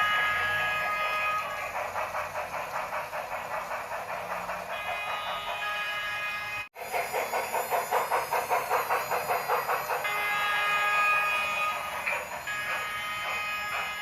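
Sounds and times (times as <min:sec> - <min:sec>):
chime steam whistle: 0:00.0 - 0:02.2, 0:04.7 - 0:14.0
steam locomotive chuffing: 0:00.0 - 0:14.0.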